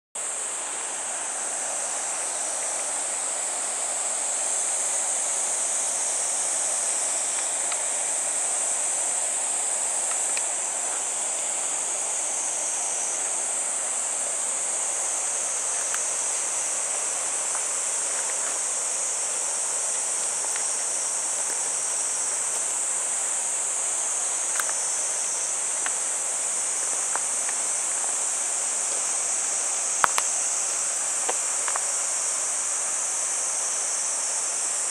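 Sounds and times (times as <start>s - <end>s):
cicadas chorus: 0.2s - 34.9s.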